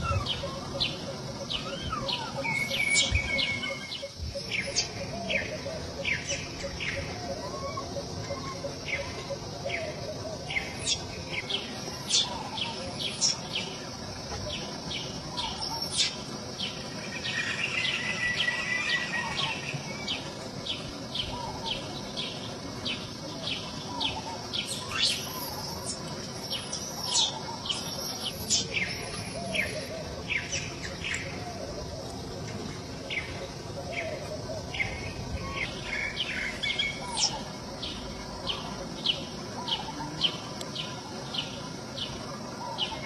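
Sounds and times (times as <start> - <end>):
steady high hiss: 0.0 - 43.0.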